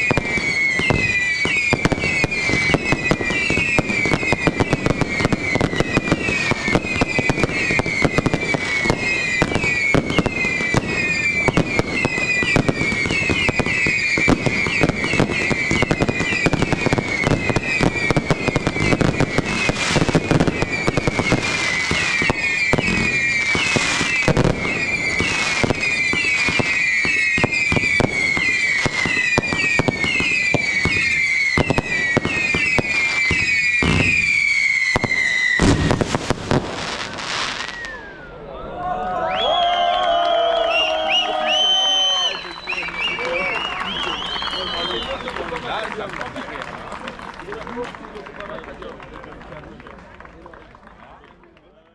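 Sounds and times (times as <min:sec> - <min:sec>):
firework cracks and bangs: 0:00.0 - 0:38.2, 0:40.8 - 0:50.2
falling firework whistles: 0:00.0 - 0:38.4, 0:39.2 - 0:45.8.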